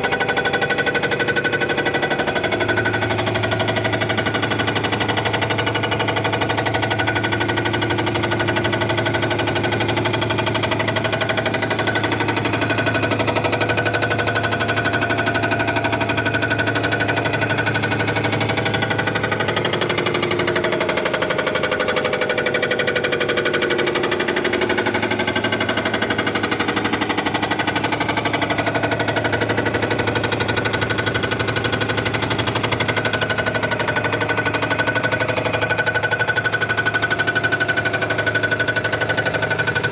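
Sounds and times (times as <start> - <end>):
machine rattling: 0.0 - 39.9.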